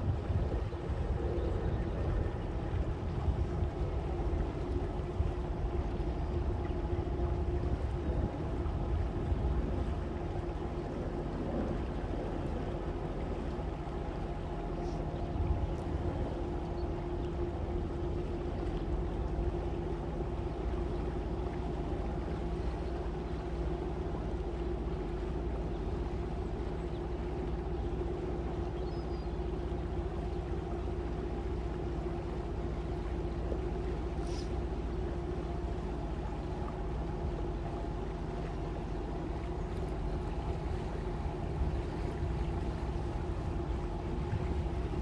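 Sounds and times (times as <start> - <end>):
boat engine droning: 0.0 - 45.0.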